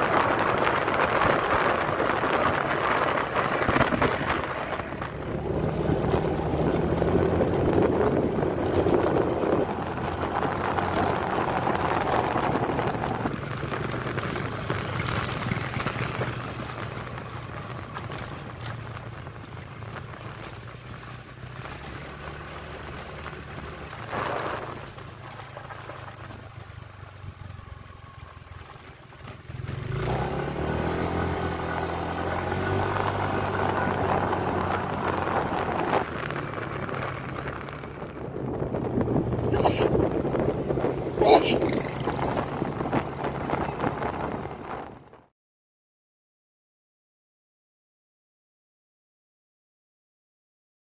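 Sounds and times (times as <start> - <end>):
small motorcycle engine running: 0.0 - 45.0
wind rushing over microphone: 0.0 - 45.3.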